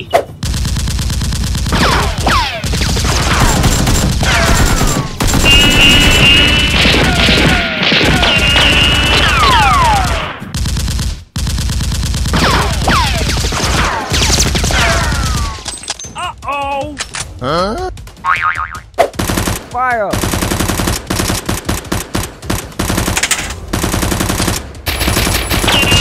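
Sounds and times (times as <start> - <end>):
rapid automatic gunfire: 0.4 - 15.7, 19.0 - 26.0.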